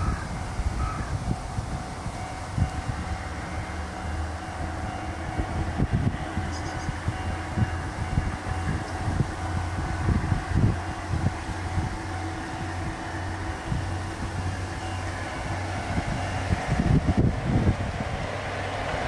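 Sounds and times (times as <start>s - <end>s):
diesel railcar engine droning: 0.0s - 19.0s
wind buffeting microphone: 0.0s - 19.0s.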